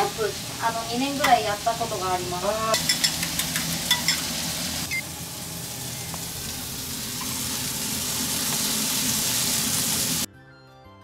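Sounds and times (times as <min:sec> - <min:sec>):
shrimp sizzling in a wok: 0:00.0 - 0:10.3.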